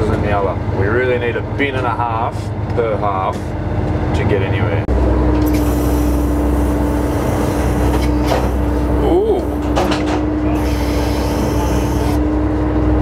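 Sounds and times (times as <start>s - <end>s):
boat engine rumbling: 0.0s - 12.3s.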